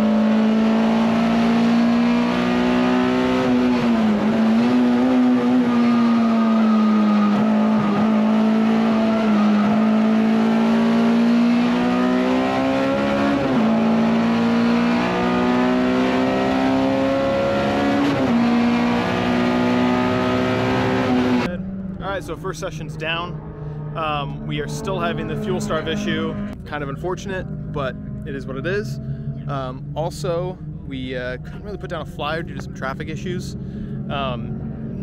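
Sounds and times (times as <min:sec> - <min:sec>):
race car engine at high revs: 0:00.0 - 0:35.0.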